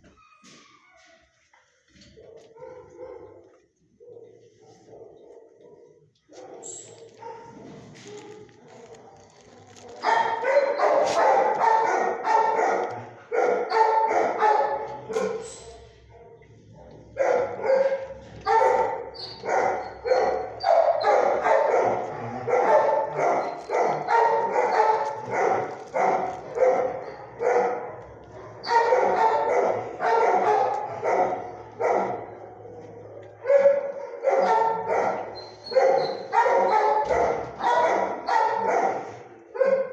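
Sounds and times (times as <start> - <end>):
dogs barking: 2.1 - 39.9.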